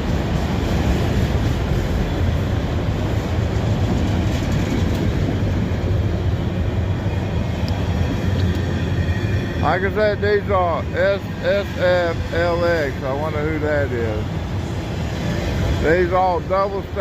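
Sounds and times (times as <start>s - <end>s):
freight train wheels on rail: 0.0s - 17.0s.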